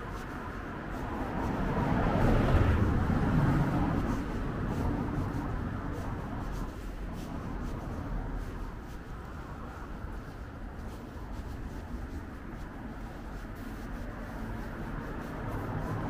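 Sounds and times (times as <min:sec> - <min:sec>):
car passing: 0:00.0 - 0:16.0.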